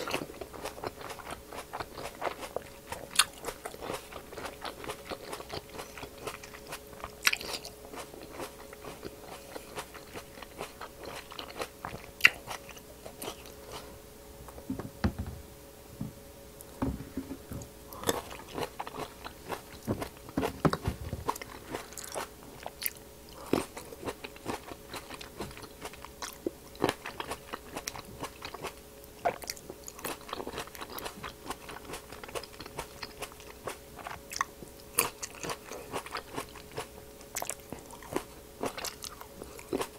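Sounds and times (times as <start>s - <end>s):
chewing crisp grapes: 0.0s - 13.9s, 17.6s - 39.9s.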